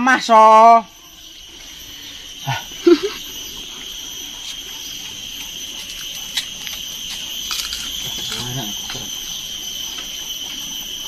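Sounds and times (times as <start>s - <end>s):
steady high-pitched whine: 0.0s - 11.0s
people eating: 1.5s - 10.6s.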